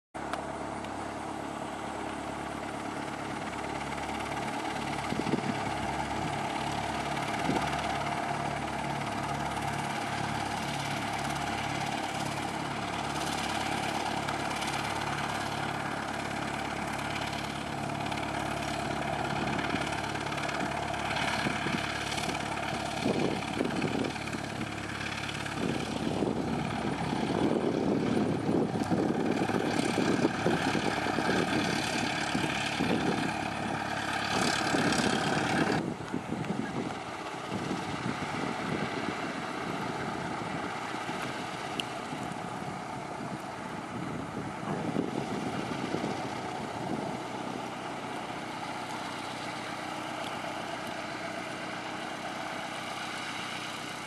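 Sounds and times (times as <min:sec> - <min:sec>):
propeller plane engine droning: 0:00.2 - 0:54.0.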